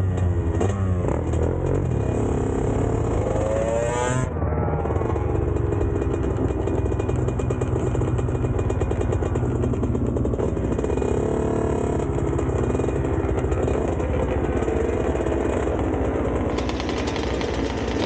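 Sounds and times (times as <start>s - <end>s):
dirt bike engines running: 0.0s - 18.0s.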